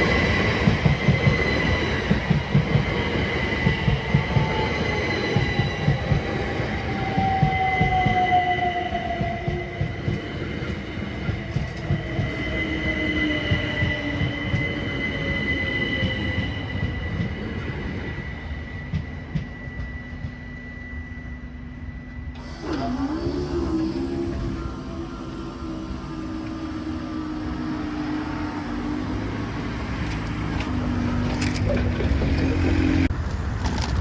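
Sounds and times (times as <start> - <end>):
train wheel squeal: 0.0 - 28.9
train wheels rumbling and clattering: 0.0 - 34.0.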